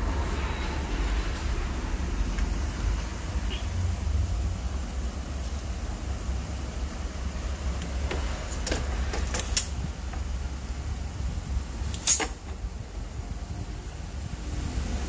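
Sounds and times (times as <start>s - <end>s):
gas burner rumbling: 0.0s - 15.0s.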